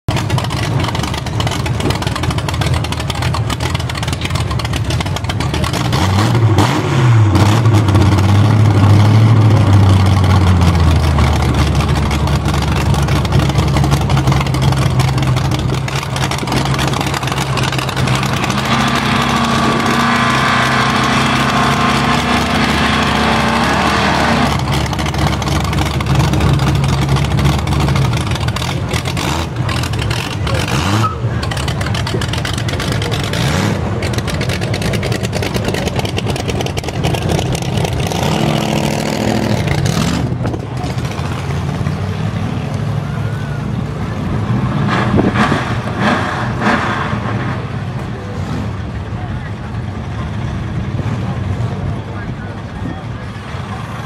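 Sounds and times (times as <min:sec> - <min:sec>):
truck engines idling and revving: 0:00.0 - 0:54.0.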